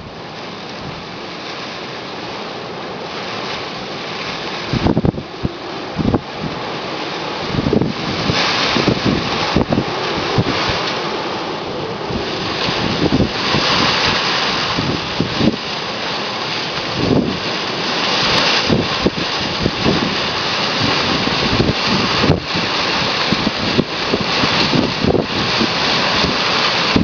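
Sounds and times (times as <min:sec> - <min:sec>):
strong wind gusting: 0:00.0 - 0:27.0
wind buffeting microphone: 0:00.0 - 0:27.0.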